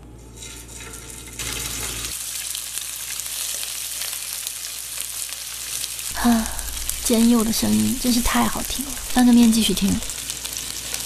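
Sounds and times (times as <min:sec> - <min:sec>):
meat sizzling in a frying pan: 0:00.4 - 0:11.0.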